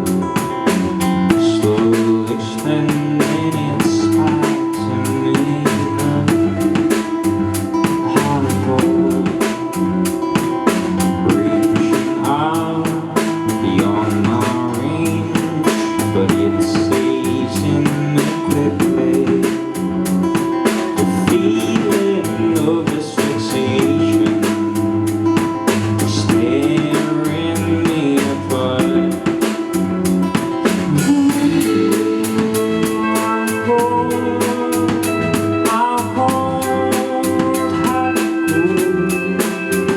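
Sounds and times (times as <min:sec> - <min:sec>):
bass and guitar: 0:00.0 - 0:39.9
drum kit beat: 0:00.0 - 0:39.9
person singing: 0:00.0 - 0:39.9.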